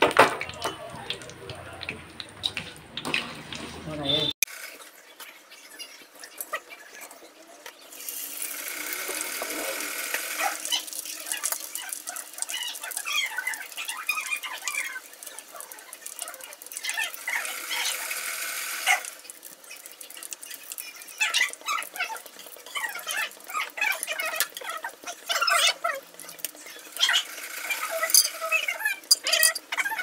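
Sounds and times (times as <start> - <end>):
food deep-frying in oil: 0.0 - 30.0.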